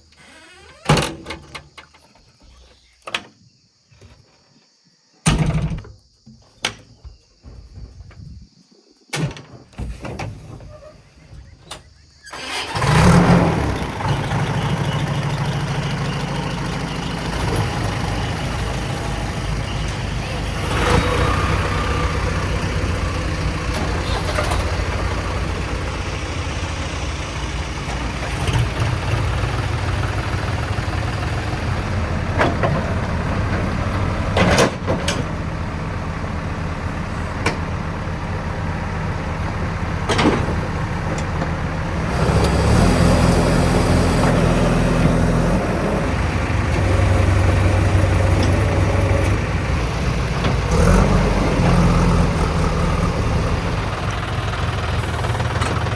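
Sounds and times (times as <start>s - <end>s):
diesel engine of backhoe loader: 9.8s - 55.9s.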